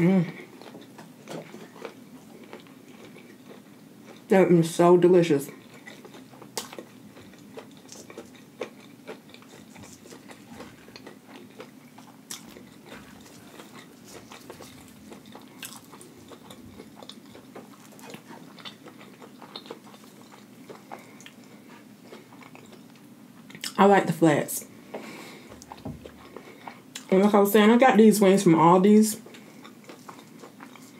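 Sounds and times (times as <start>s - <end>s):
crunchy chewing: 0.4s - 4.3s, 5.5s - 23.8s, 24.8s - 27.1s, 29.2s - 30.9s.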